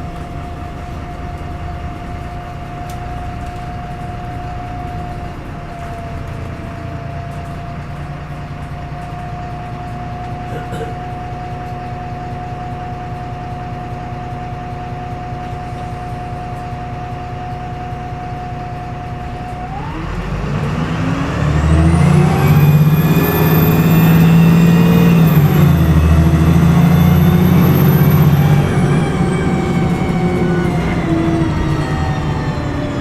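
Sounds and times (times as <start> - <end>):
bus diesel engine: 0.0 - 33.0
high-pitched turbocharger whine: 0.0 - 33.0.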